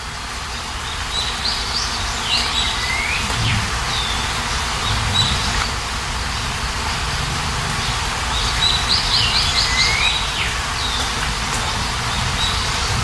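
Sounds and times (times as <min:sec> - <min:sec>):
small birds chirping: 0:00.0 - 0:13.0
steady rain falling: 0:00.0 - 0:13.0.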